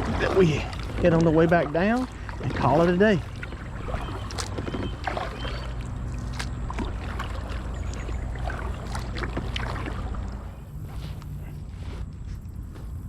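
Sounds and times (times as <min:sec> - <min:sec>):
paddle splashing in water: 0:00.0 - 0:12.0
steady low rumble: 0:00.0 - 0:13.0.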